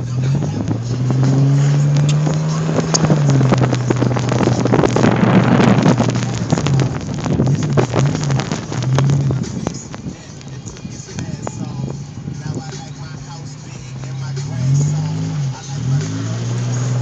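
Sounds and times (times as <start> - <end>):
car engine hum: 0.0 - 17.0
road noise with crackles: 0.0 - 17.0.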